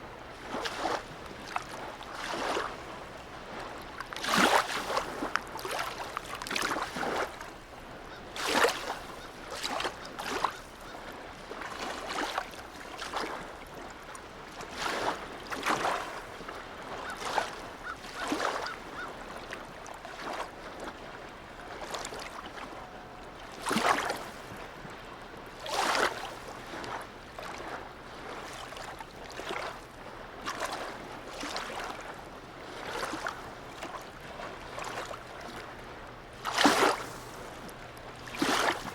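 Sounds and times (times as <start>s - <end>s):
faint wash of water: 0.0s - 38.9s
waves splashing: 0.0s - 38.9s.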